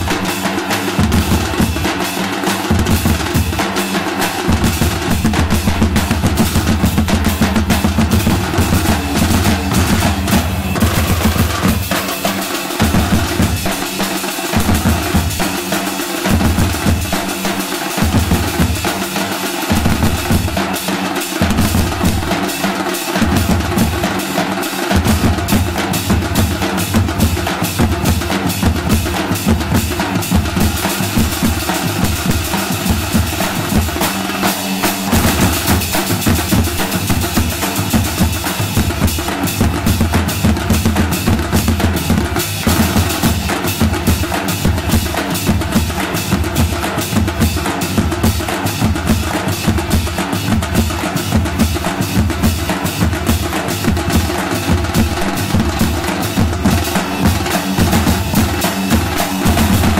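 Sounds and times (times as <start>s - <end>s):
dhol drums playing fast rhythm: 0.0s - 59.9s.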